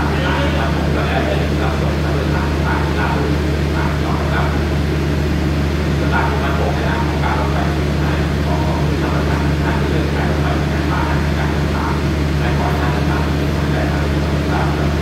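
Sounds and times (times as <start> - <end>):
diesel train idling hum: 0.0 - 15.0.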